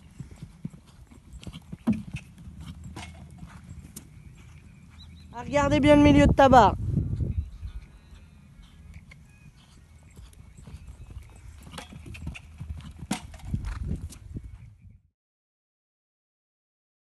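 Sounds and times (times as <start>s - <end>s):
horse hoofbeats on sand: 0.0s - 14.7s.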